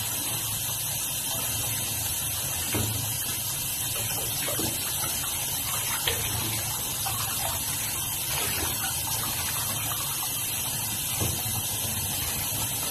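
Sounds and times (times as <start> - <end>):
shower water spraying on clothing: 0.0 - 12.9
water splashing into bathtub: 0.1 - 12.9.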